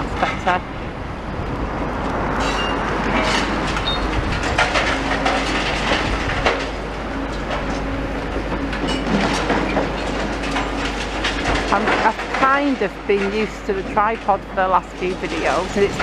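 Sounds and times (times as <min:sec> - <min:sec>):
diesel engine drone: 0:00.0 - 0:16.0
metal and rubble clanking: 0:02.2 - 0:16.0.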